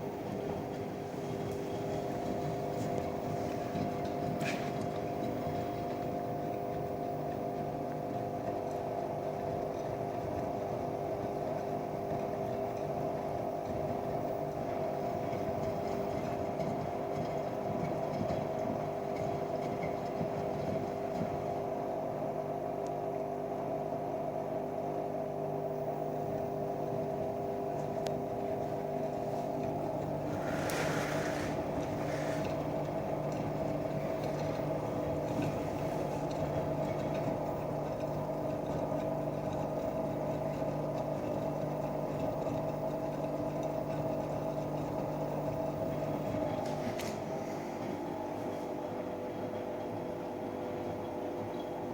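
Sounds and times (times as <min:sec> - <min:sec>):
washing machine motor whine: 0:00.0 - 0:51.9.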